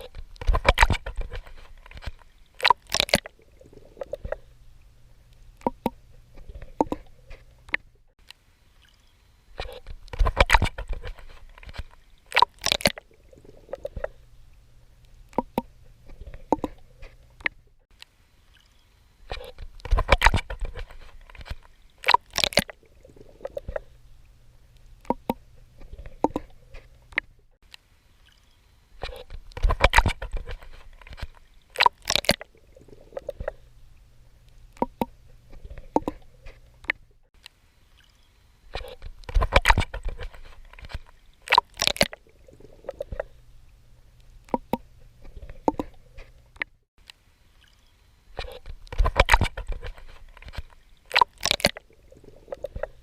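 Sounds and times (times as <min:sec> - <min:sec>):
swimming strokes splashing water: 0:00.0 - 0:07.8, 0:08.8 - 0:17.4, 0:18.4 - 0:27.2, 0:28.1 - 0:37.0, 0:37.9 - 0:43.5, 0:47.6 - 0:53.0.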